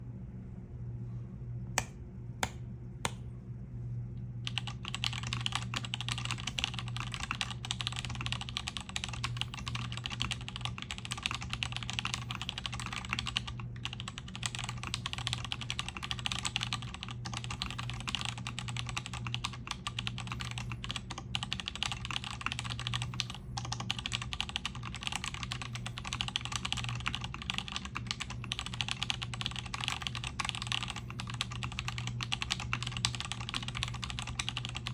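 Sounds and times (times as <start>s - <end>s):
mechanical keyboard typing: 4.4s - 34.9s.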